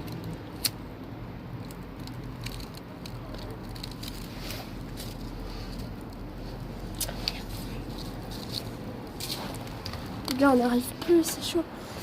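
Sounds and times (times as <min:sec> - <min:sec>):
fire crackling: 0:00.0 - 0:10.9.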